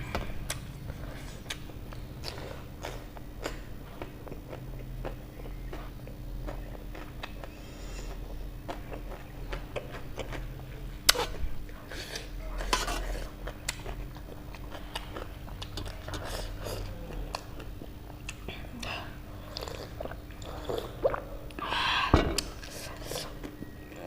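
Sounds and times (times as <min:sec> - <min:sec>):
soft chewing: 0:00.0 - 0:21.6
low steady hum: 0:00.0 - 0:24.0.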